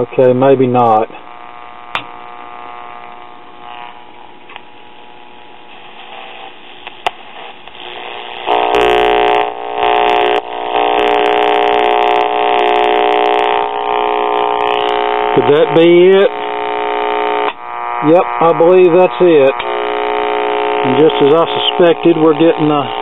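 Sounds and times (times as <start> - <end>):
faint radio static: 0.0 - 23.0
loud steady buzzing hum: 0.0 - 23.0
radio tuning clicks: 0.0 - 23.0.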